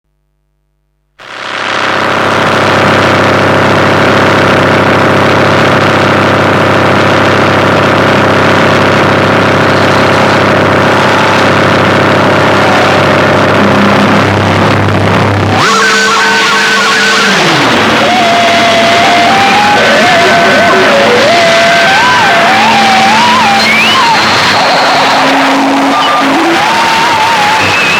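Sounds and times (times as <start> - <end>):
dense wall of noise: 1.2 - 27.9
layered droning tones: 1.4 - 27.6.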